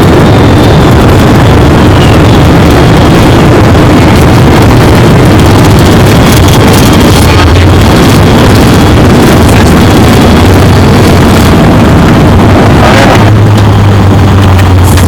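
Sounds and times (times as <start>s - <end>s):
jet engine airflow rush: 0.0s - 15.0s
steady low hum: 0.0s - 15.0s.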